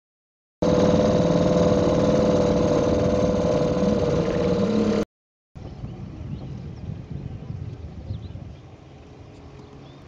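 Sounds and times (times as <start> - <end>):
boat motor running: 0.6 - 10.0.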